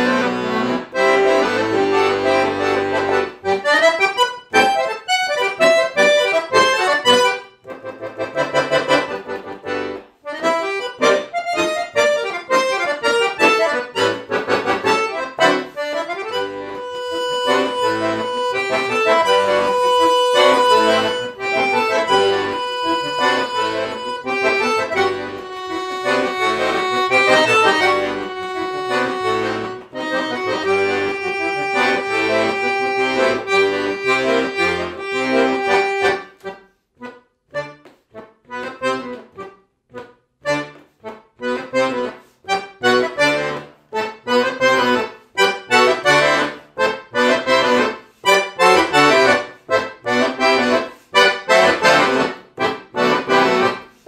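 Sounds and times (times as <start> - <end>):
accordion playing solo: 0.0 - 54.0.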